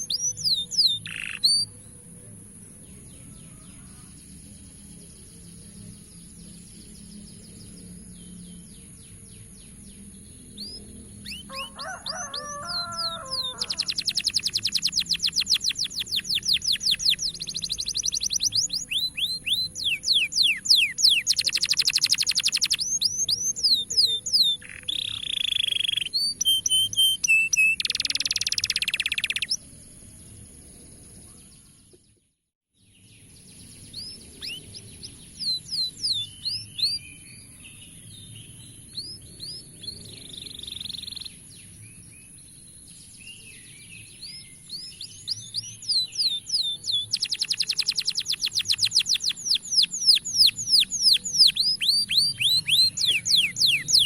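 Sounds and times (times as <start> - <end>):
canary singing: 0.0 - 4.6, 5.2 - 29.7, 33.7 - 41.5, 43.5 - 54.0.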